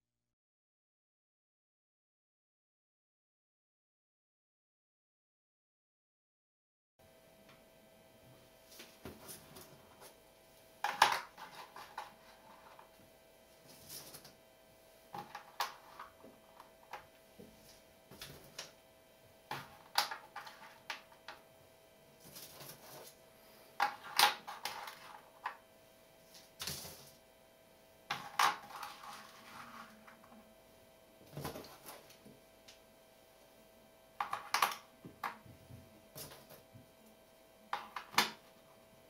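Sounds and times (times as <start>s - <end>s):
faint steady hum: 7.0s - 39.0s.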